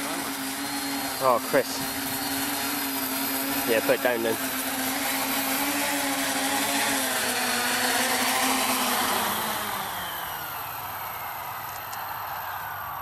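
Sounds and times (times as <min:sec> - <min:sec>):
quadcopter propellers whirring: 0:00.0 - 0:13.0.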